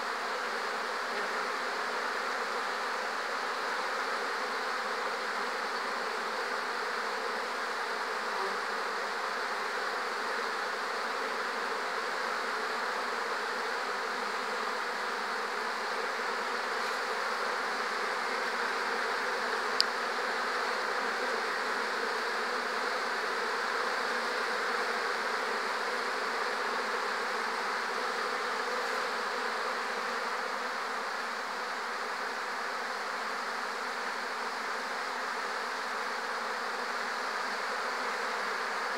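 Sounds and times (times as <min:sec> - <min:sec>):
honeybees humming: 0:00.0 - 0:38.9.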